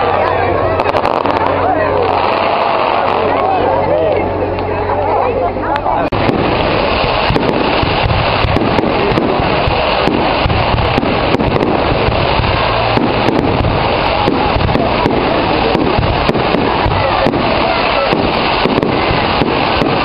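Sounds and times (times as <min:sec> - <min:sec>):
fireworks bangs and crackles: 0:00.0 - 0:04.8, 0:06.0 - 0:20.0.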